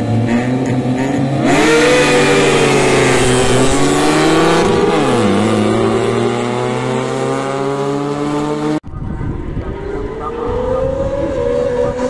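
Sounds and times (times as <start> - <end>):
race car engine passing by: 0.4 - 12.0.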